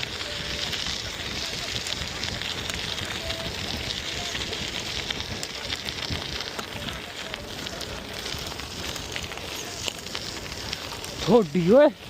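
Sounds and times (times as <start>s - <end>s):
bicycle tyres crunching over grit: 0.0s - 12.0s.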